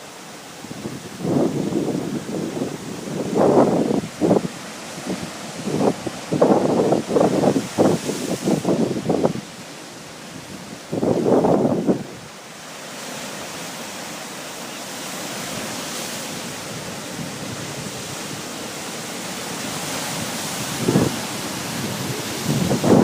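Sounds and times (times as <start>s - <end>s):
ocean surf washing on shore: 0.0s - 23.0s
wind buffeting microphone: 0.6s - 9.6s, 10.2s - 12.4s, 15.4s - 23.0s.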